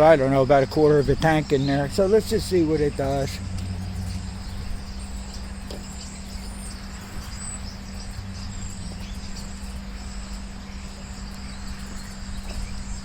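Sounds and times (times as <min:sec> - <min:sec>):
insects chirping: 0:00.0 - 0:13.0
low hum: 0:00.0 - 0:13.0.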